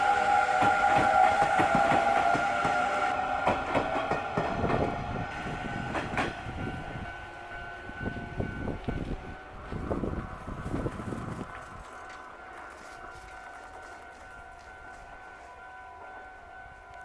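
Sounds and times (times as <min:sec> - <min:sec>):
train wheels clacking over rails: 0:00.0 - 0:15.3.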